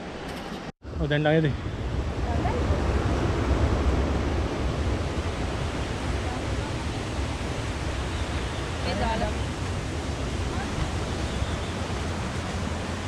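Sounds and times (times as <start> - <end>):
wind rumble on microphone: 0.8 - 13.0
flowing water rushing: 1.4 - 13.0.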